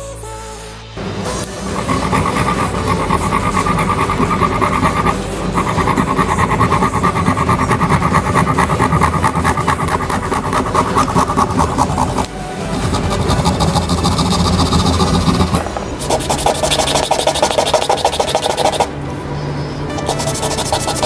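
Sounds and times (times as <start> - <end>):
motor-driven wire saw buzzing: 1.7 - 18.9.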